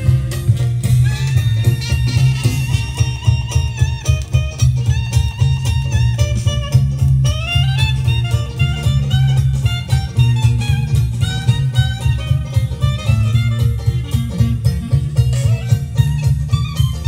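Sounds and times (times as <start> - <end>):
music with pulsing bass line: 0.0 - 17.0.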